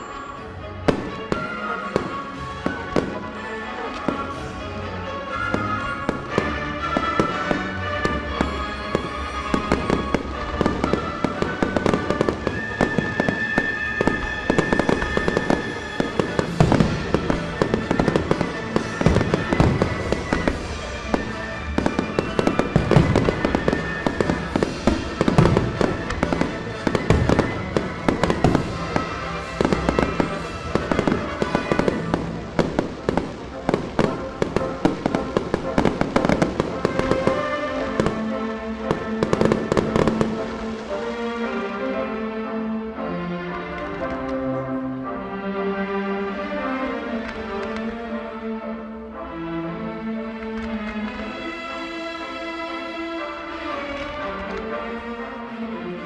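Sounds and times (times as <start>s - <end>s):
fireworks bangs and crackles: 0.0s - 42.4s, 46.3s - 48.2s, 50.2s - 52.0s
music soundtrack: 0.0s - 56.0s.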